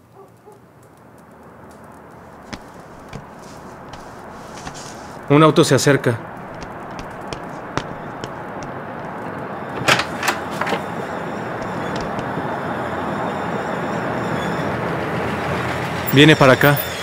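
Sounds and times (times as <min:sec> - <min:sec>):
car engine and road noise: 0:01.5 - 0:17.0.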